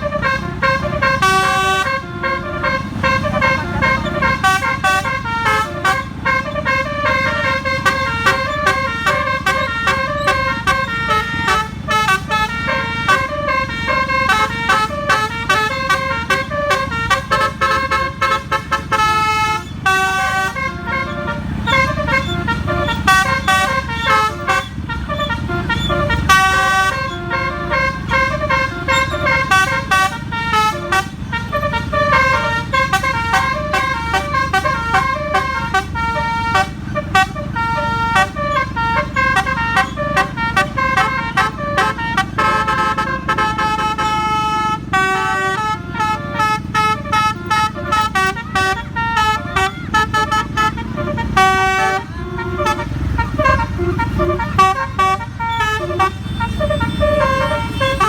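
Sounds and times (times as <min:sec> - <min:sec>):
air horn playing a tune: 0:00.0 - 0:58.0
engine and road rumble: 0:00.0 - 0:58.0.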